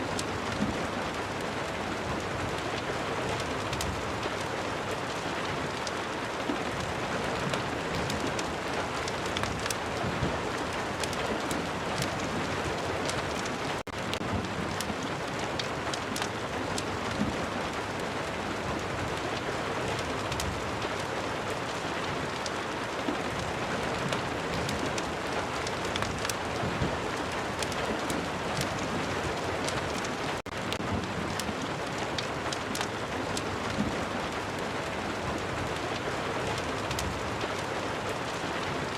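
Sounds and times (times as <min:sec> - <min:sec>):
steady rain: 0:00.0 - 0:38.9
wood fire crackling: 0:00.0 - 0:38.9.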